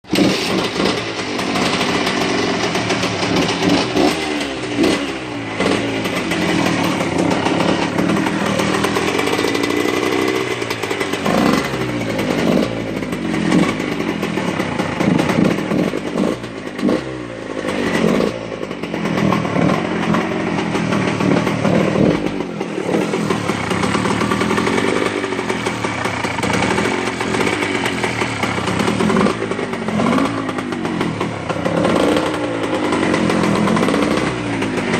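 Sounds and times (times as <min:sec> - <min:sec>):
two-stroke engine idling and revving: 0:00.0 - 0:34.9.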